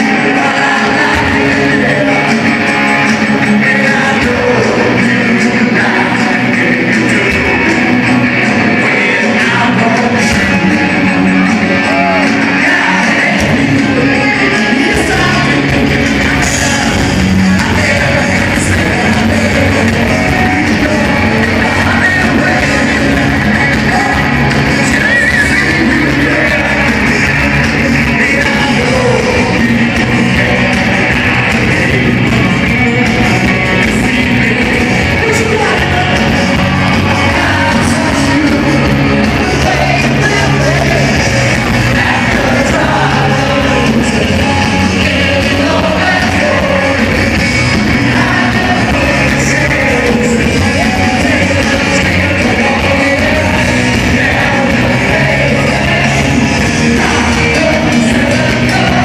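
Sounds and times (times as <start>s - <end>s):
crowd yelling along: 0.0s - 59.0s
lead vocals singing: 0.0s - 59.0s
live rock band playing: 0.0s - 59.0s.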